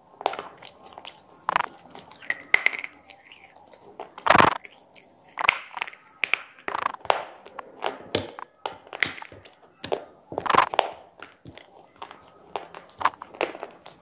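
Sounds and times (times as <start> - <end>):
biting and chewing crunches: 0.0 - 8.5, 10.4 - 14.0.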